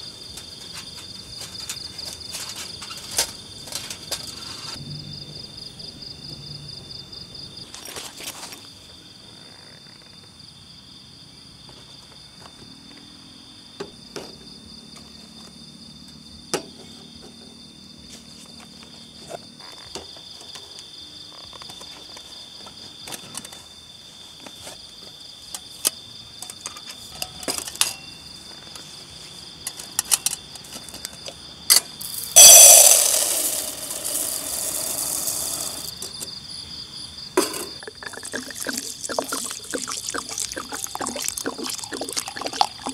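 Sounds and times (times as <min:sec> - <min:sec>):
night insects chirring: 0:00.0 - 0:42.9.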